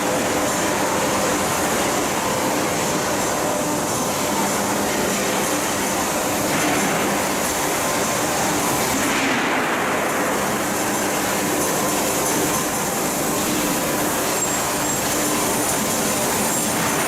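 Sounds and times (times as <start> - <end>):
industrial machinery running: 0.0 - 17.0.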